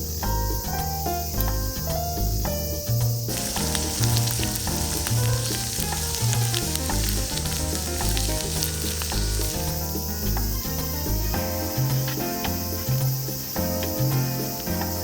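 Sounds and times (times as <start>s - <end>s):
food frying in hot fat: 0.2s - 15.0s.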